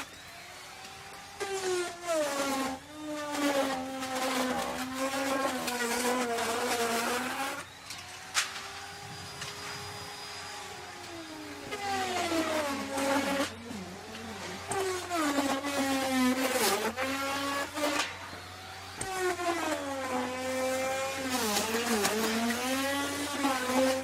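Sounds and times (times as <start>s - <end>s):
rough wood cutting noise: 0.0s - 24.0s
wood router motor whine: 0.0s - 24.0s.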